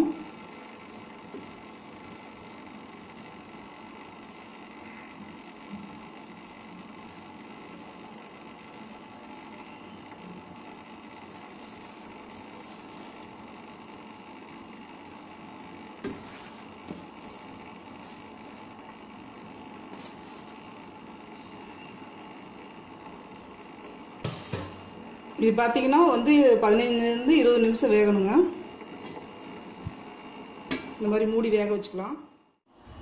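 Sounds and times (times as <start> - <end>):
kitchen background hum and hiss: 0.0 - 33.0.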